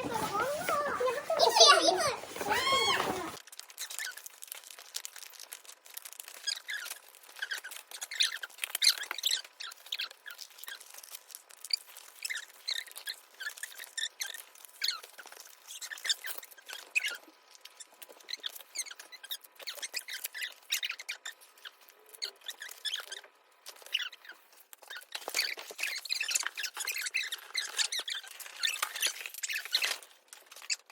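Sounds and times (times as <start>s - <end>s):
plastic packaging crinkling: 0.0s - 30.9s.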